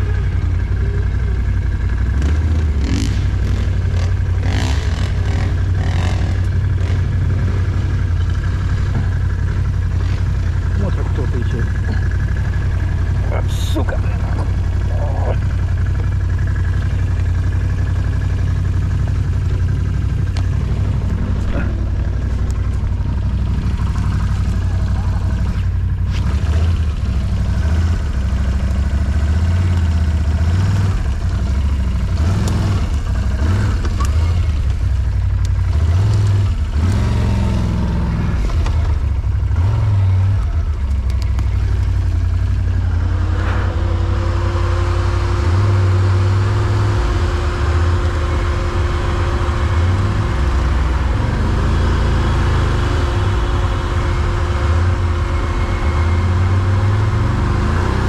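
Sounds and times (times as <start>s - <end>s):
quad bike engine rumbling: 0.0s - 58.0s
steady whine: 0.0s - 58.0s.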